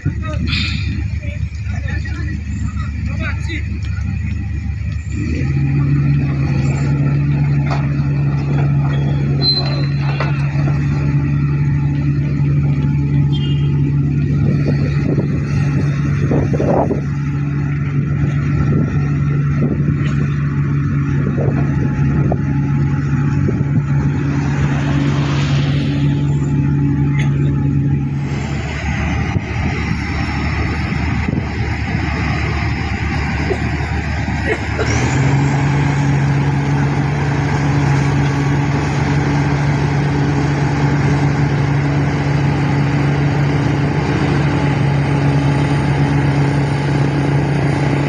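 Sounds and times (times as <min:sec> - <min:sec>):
diesel machinery low hum: 0:00.0 - 0:48.0
rough uneven engine noise: 0:00.0 - 0:48.0.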